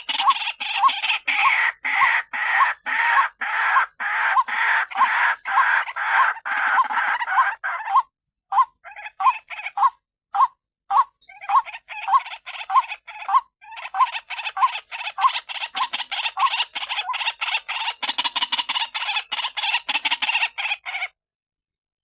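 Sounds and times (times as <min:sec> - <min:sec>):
bird harsh repeated calls: 0:00.0 - 0:21.2.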